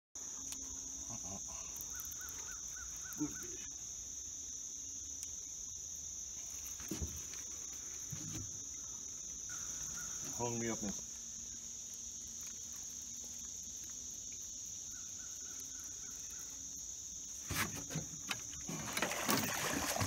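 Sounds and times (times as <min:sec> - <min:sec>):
high-pitched insect chorus: 0:00.2 - 0:20.0
insect chirps: 0:00.2 - 0:20.0.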